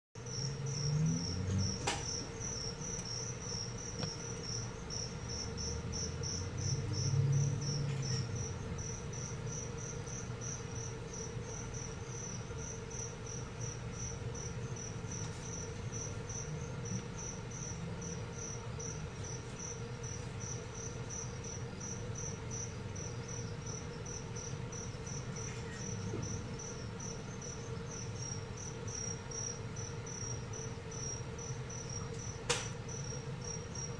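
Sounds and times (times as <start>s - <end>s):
cricket chirping: 0.2s - 33.9s.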